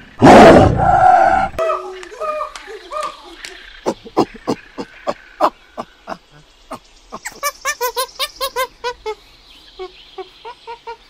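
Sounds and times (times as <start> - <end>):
monkey calling: 1.6 - 11.0
monkey chattering calls: 1.7 - 11.0.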